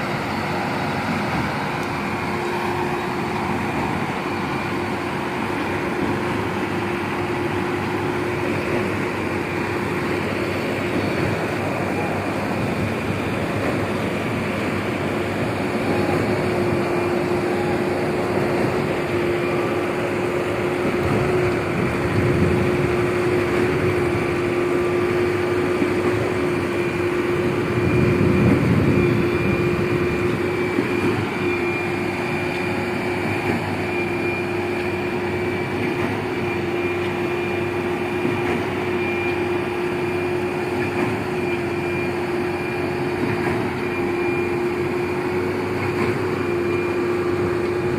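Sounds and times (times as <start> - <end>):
concrete pump humming: 0.0 - 47.9.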